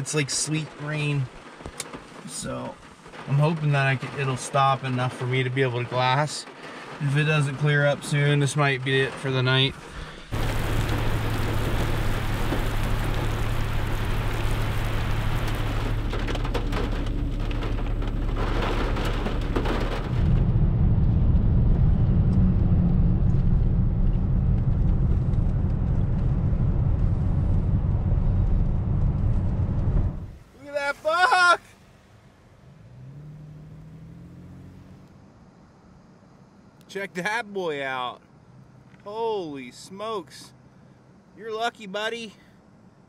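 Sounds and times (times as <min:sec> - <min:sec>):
vehicle driving on wet road: 0:00.0 - 0:35.5
sleet and rain pelting vehicle: 0:00.0 - 0:42.6.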